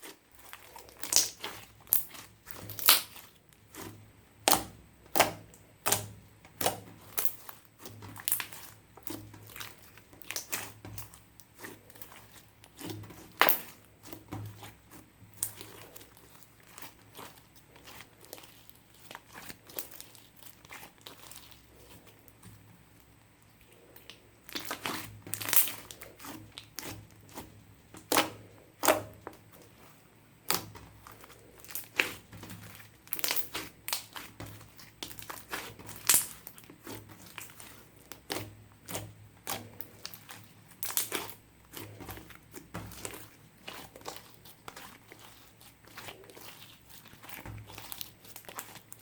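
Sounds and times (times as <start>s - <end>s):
slime being squished by hand: 0.0s - 22.6s, 23.6s - 49.0s.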